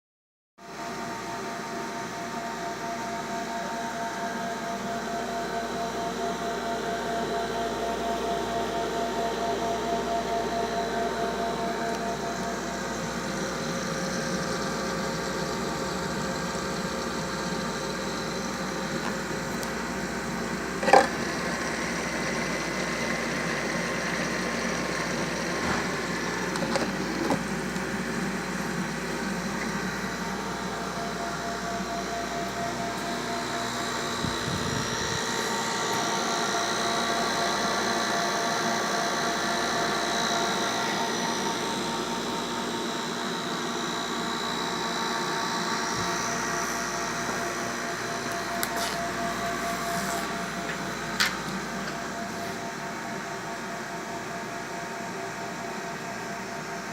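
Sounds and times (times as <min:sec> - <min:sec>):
cooling circulator humming: 0:00.7 - 0:56.9.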